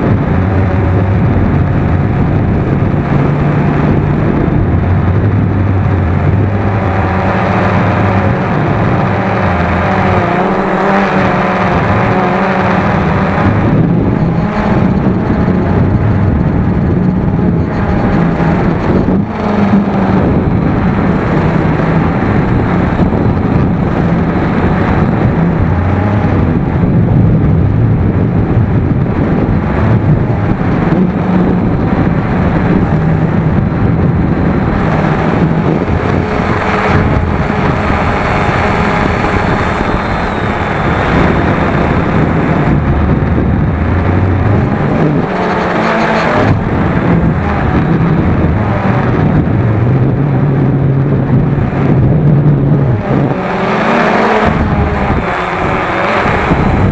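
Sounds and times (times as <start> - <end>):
drone propellers buzzing: 0.0 - 56.9
wind noise: 0.0 - 56.9.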